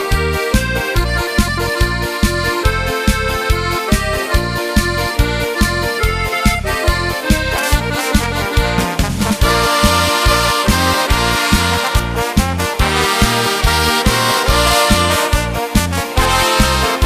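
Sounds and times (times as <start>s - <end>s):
accordion music: 0.0s - 17.0s
bouncing bass beat: 0.0s - 17.0s.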